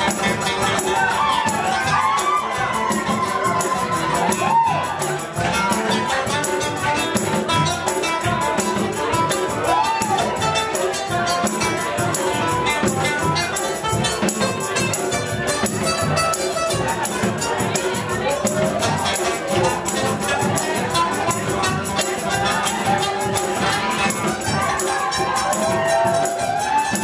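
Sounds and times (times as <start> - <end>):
conga drumming: 0.0 - 27.0
latin band music: 0.0 - 27.0.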